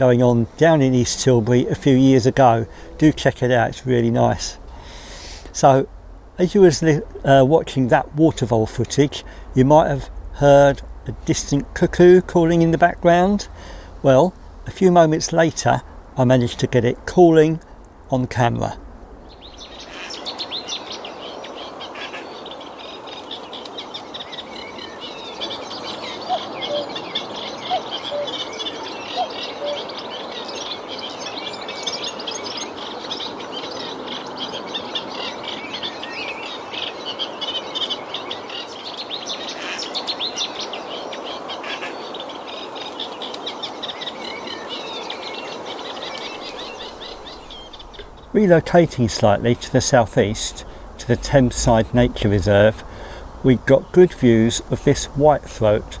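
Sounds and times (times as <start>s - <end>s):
cuckoo calling: 0.0s - 15.9s, 16.6s - 38.8s, 39.5s - 56.0s
songbirds chorus: 0.0s - 56.0s.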